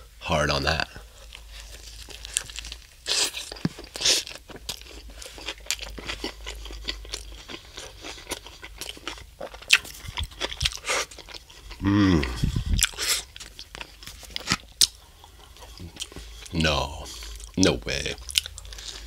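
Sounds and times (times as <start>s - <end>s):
person chewing food: 1.0s - 19.0s.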